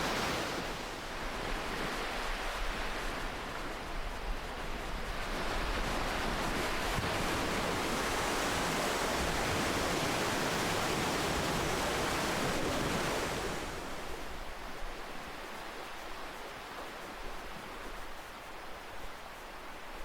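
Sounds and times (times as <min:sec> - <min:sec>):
waves breaking: 0:00.0 - 0:20.0.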